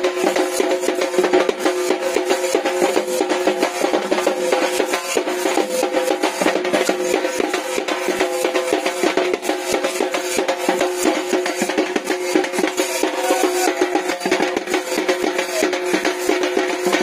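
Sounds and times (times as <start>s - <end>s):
drumbeats: 0.0s - 17.0s.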